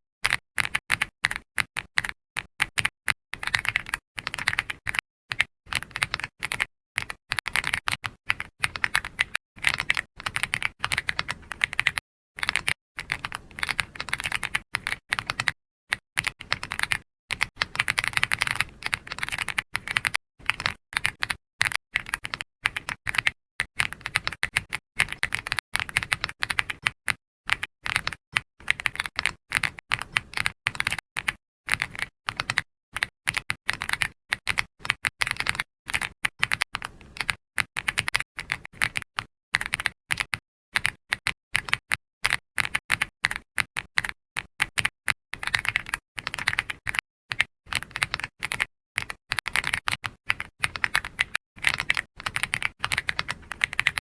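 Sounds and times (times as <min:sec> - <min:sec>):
soft typing on keyboard: 0:00.2 - 0:54.0.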